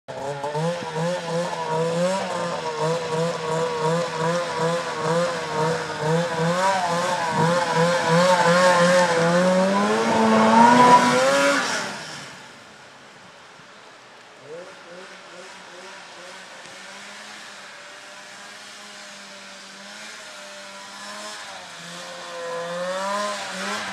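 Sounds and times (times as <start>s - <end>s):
snowmobile engine running: 0.1s - 12.3s, 14.4s - 23.9s.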